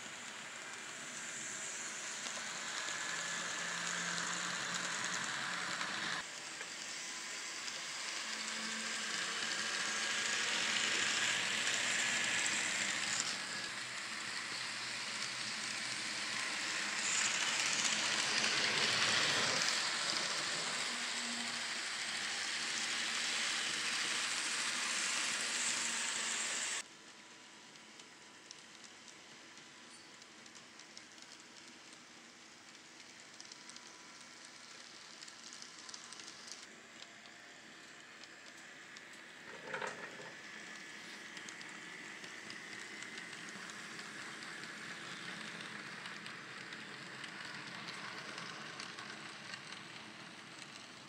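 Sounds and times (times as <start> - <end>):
model trains whirring: 0.0 - 51.0.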